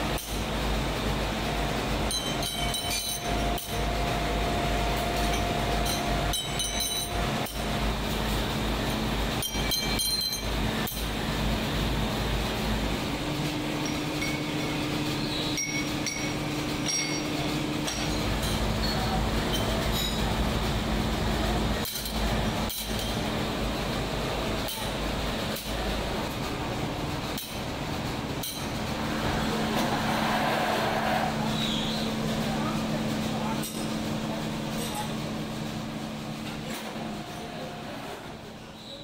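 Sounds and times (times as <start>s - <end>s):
factory machinery humming: 0.0s - 39.0s.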